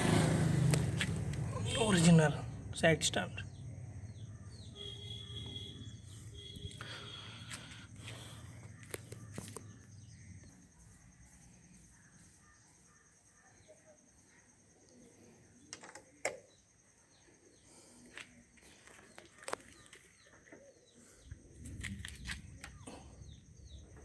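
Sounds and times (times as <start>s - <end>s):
faint bird chirps: 3.4s - 24.0s.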